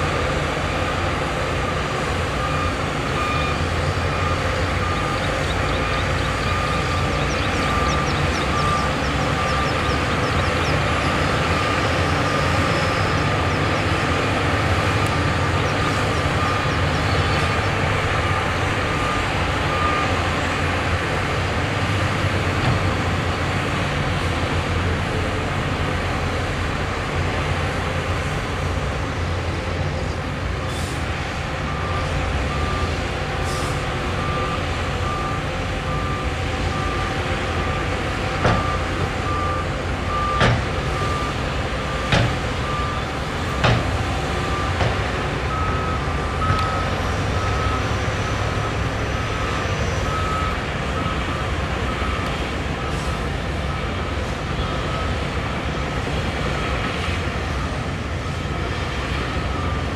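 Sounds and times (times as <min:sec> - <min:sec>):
bulldozer diesel engines running: 0:00.0 - 0:59.9
reversing alarm beeping: 0:00.6 - 0:23.1, 0:31.5 - 0:59.9.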